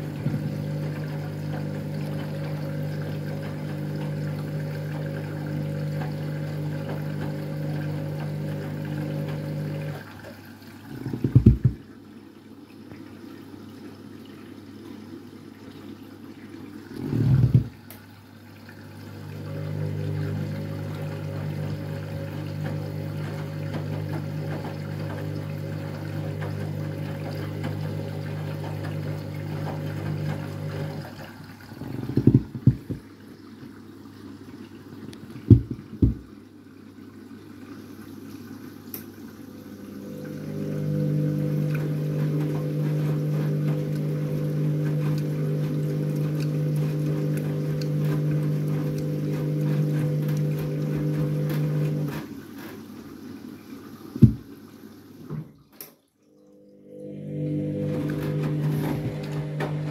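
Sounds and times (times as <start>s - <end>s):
washing machine motor hum: 0.0s - 55.7s, 56.3s - 59.9s
water pouring and sloshing: 0.0s - 59.9s.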